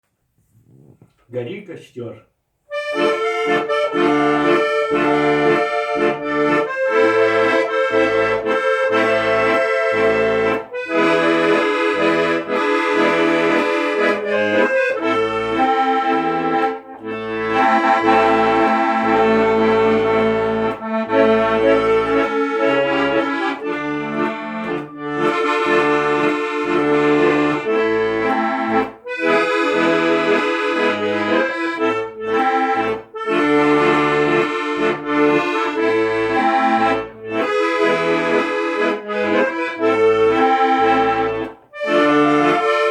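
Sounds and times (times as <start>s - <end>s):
accordion music: 2.7s - 42.9s.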